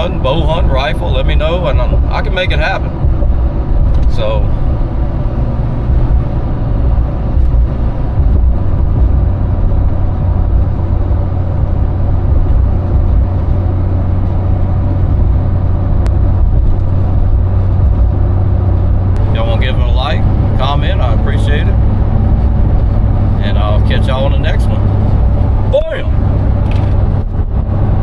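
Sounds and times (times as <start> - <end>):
engine drone: 0.0 - 28.0
road rumble: 0.0 - 28.0.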